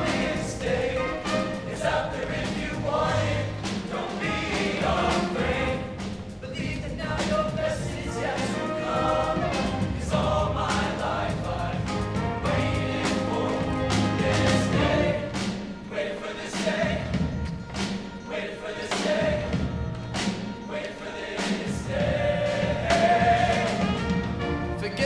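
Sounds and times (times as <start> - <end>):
drums and bass: 0.0 - 15.8, 16.6 - 18.1, 18.9 - 20.6, 21.4 - 25.0
choir singing: 0.0 - 24.7.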